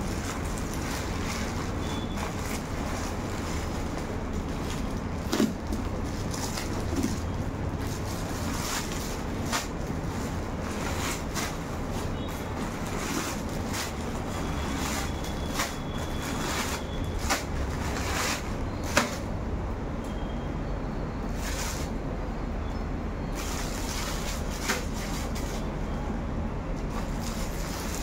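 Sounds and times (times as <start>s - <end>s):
plastic packets rustling: 0.0s - 19.3s, 23.3s - 25.7s, 26.8s - 28.0s.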